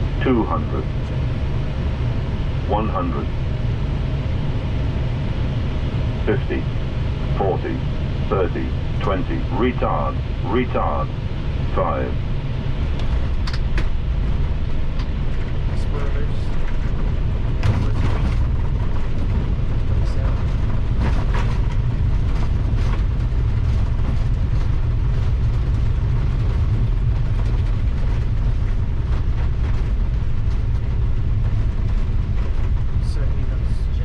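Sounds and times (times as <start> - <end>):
aircraft rolling on runway: 0.0 - 34.0.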